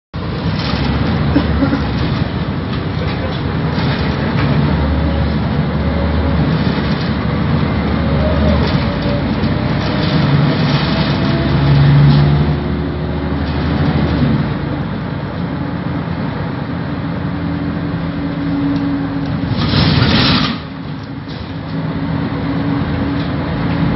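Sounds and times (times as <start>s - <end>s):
bus engine running: 0.2s - 23.9s.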